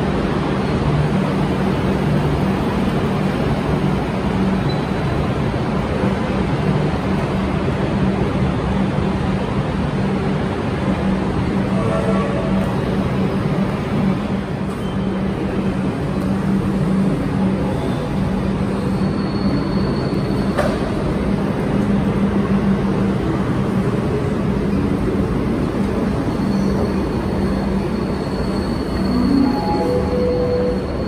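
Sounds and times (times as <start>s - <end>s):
low rumble of trains: 0.0s - 31.0s.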